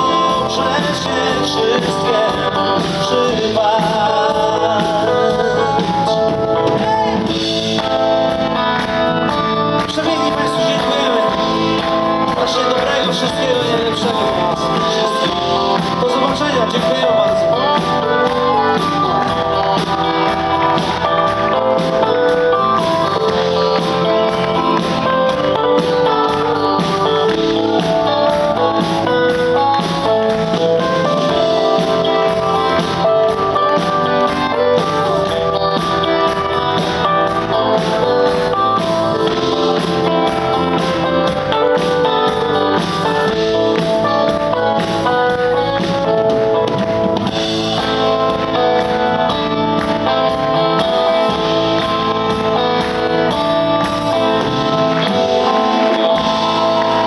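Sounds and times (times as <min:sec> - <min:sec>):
electric bass guitar: 0:00.0 - 0:57.0
keyboards: 0:00.0 - 0:57.0.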